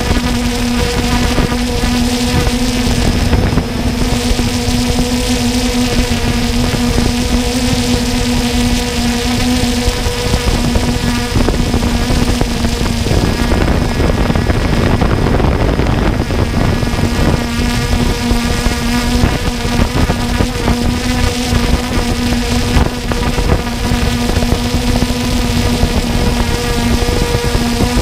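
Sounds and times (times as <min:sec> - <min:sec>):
air noise rushing: 0:00.0 - 0:28.0
drone motors humming: 0:00.0 - 0:28.0.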